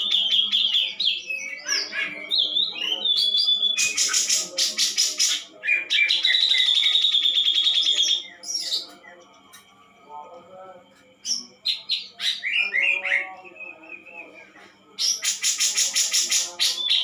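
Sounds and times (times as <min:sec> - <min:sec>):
songbird singing: 0:00.0 - 0:10.3, 0:11.2 - 0:17.0.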